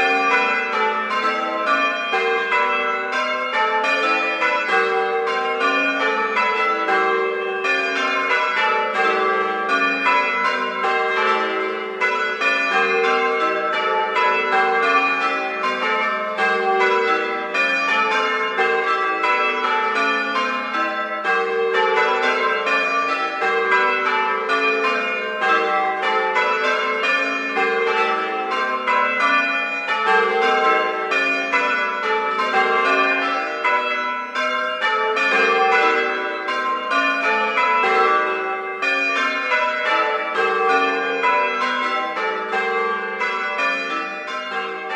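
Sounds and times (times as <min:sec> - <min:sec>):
church bells ringing: 0:00.0 - 0:44.9.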